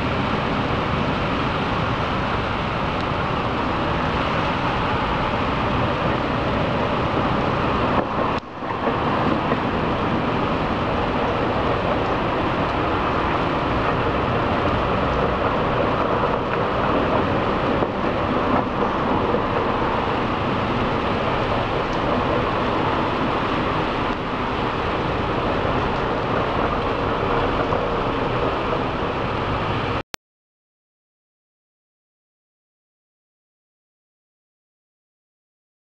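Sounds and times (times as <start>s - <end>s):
rain: 0.0s - 30.0s
wind: 0.0s - 30.0s.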